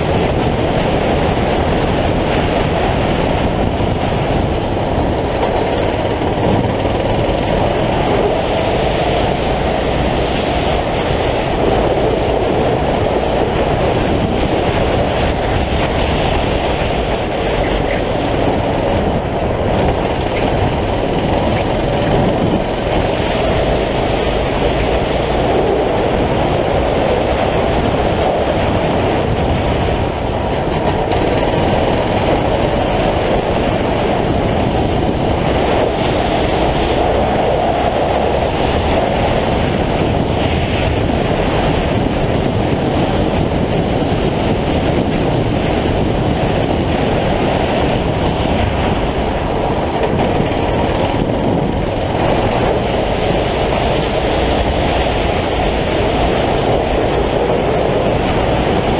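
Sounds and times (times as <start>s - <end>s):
kart engine racing: 0.0s - 58.9s.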